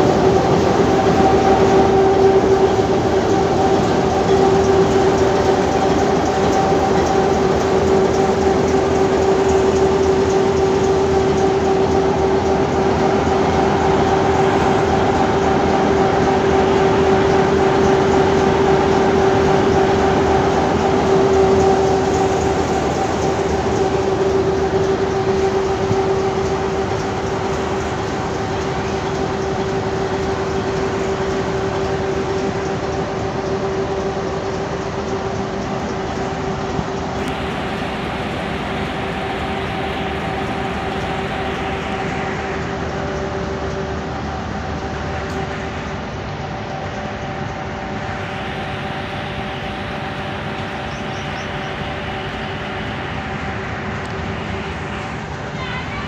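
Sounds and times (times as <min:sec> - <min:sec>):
locomotive engine idling: 0:00.0 - 0:56.0
steady droning note: 0:00.0 - 0:56.0.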